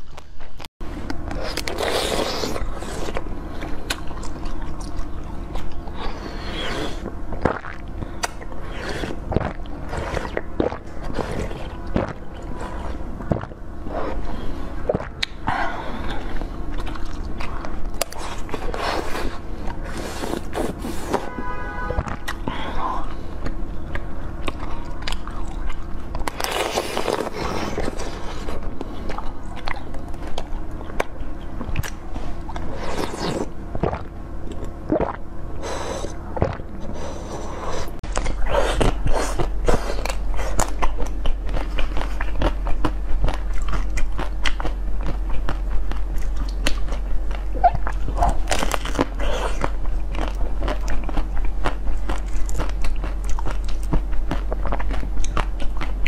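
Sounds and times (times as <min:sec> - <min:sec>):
low background hum: 0:00.0 - 0:56.0
wet chewing: 0:01.0 - 0:21.3, 0:22.1 - 0:56.0.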